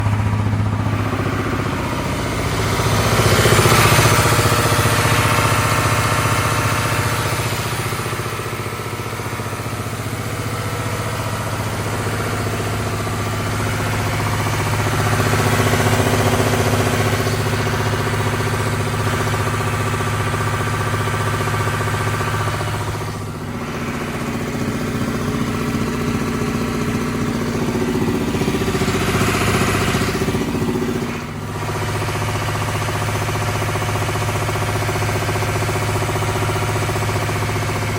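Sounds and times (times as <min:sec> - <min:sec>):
diesel engine running: 0:00.0 - 0:37.9
odd engine sound: 0:00.0 - 0:37.9.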